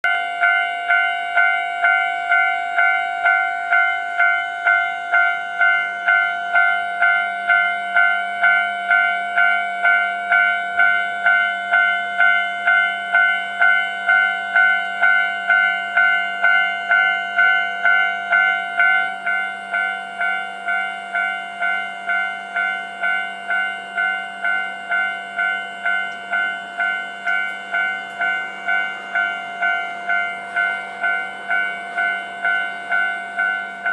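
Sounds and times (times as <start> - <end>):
level crossing bell ringing: 0.0 - 33.9.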